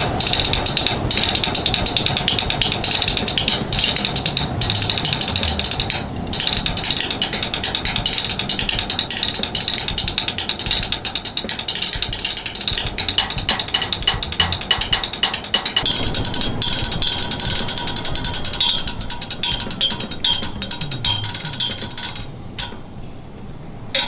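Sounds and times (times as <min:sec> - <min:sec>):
drumsticks clicking on metal railing: 0:00.0 - 0:22.8.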